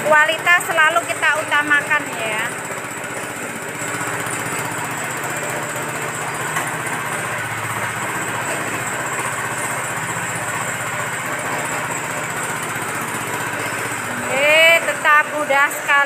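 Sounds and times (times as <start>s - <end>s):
feed mixer pulsing hum: 0.0s - 16.0s.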